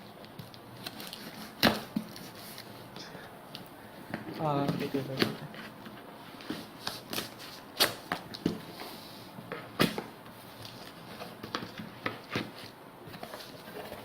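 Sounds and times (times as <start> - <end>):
hands handling cardboard packaging: 0.0 - 14.0.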